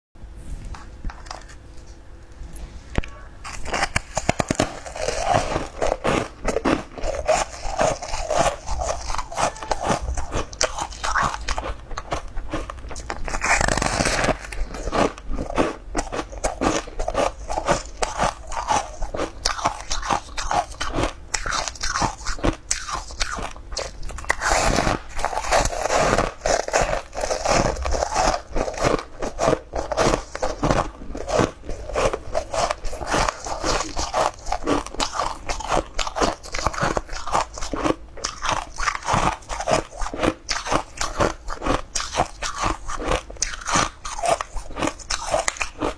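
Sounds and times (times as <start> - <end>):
biting and chewing sponge cake: 3.1 - 45.9.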